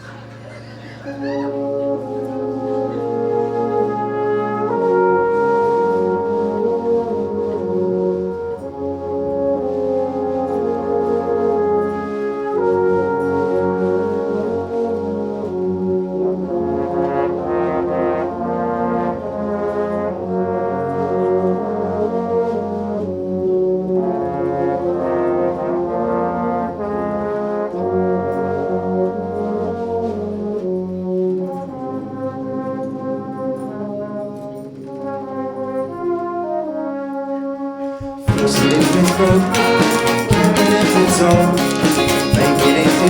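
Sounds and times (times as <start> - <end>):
brass band playing sustained chords: 0.0 - 43.0.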